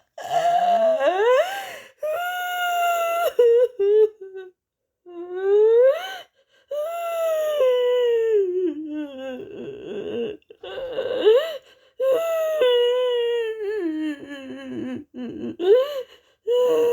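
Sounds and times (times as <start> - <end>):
woman sobbing: 0.0 - 16.9.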